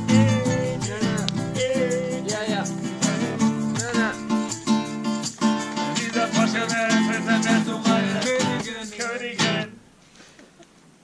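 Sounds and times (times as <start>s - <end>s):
acoustic guitar strumming chords: 0.0s - 9.8s.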